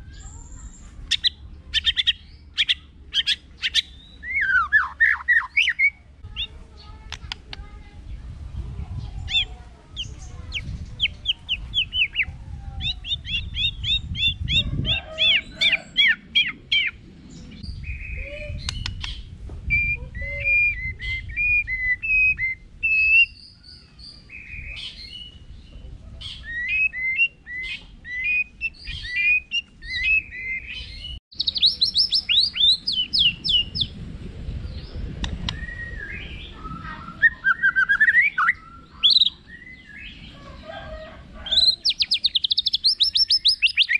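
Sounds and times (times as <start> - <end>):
bird singing: 0.0 - 8.2, 9.0 - 34.0, 34.7 - 43.9.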